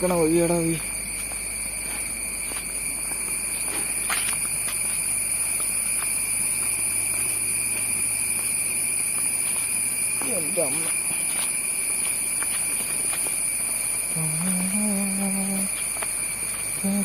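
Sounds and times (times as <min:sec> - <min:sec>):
faint footsteps on trail: 0:00.0 - 0:17.0
insect chorus drone: 0:00.0 - 0:17.0.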